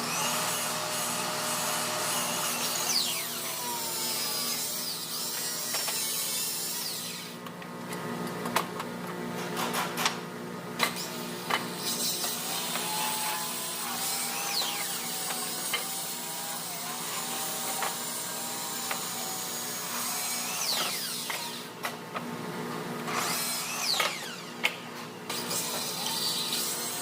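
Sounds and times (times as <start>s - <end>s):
woodworking power tools humming: 0.0s - 8.8s, 10.8s - 27.0s.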